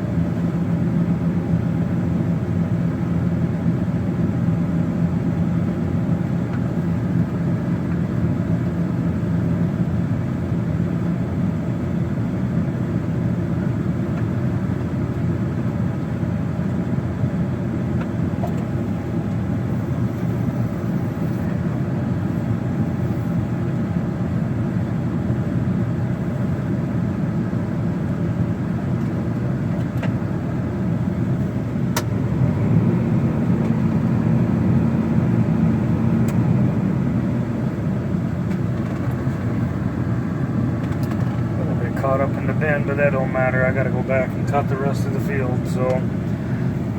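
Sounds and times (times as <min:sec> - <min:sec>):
combine harvester engine droning: 0:00.0 - 0:46.9.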